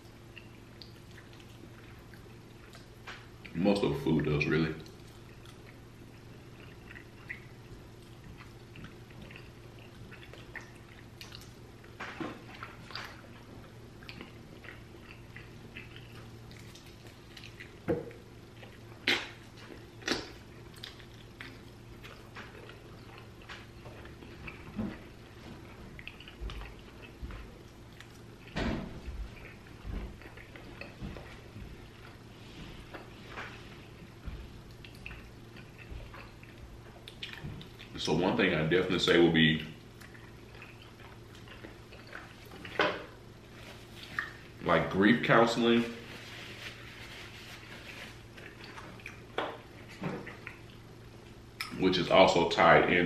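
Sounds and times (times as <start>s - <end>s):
person chewing food: 0.0s - 3.6s, 4.8s - 38.0s, 39.8s - 44.6s, 46.0s - 51.8s
steady low hum: 0.0s - 53.0s.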